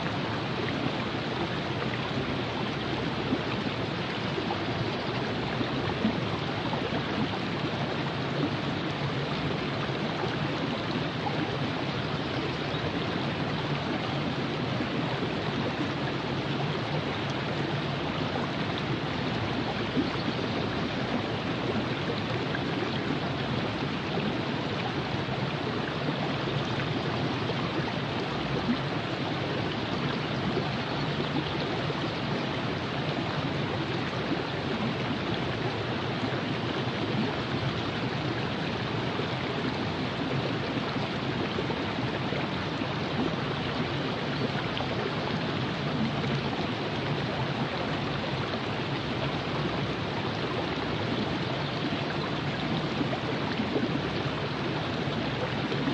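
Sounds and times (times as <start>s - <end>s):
river flowing over rocks: 0.0s - 55.9s.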